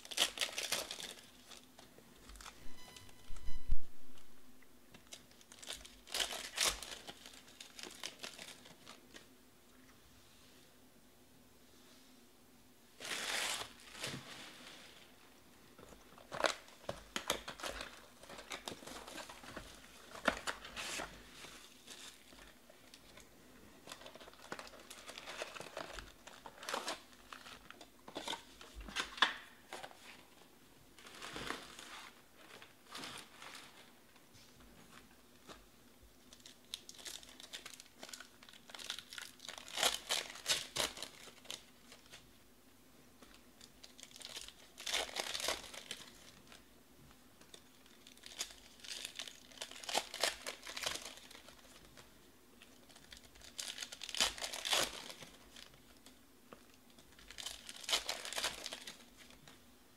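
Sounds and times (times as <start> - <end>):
plastic wrappers crinkling: 0.0 - 3.4, 4.0 - 9.3, 15.8 - 30.4, 31.0 - 34.0, 36.2 - 42.3, 43.2 - 46.7, 47.4 - 59.6.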